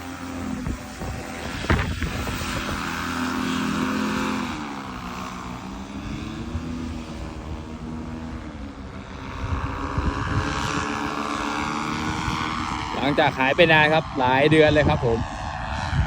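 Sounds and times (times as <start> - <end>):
paramotor engine and propeller: 0.0 - 16.0.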